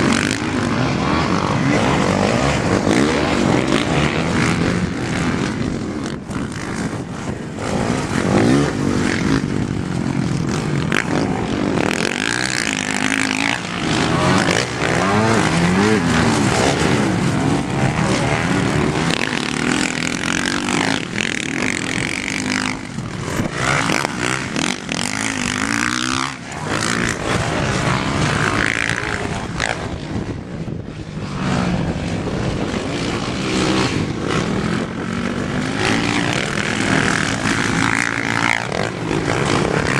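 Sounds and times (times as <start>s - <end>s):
dirt bike engine revving: 0.0s - 30.5s, 31.1s - 39.9s.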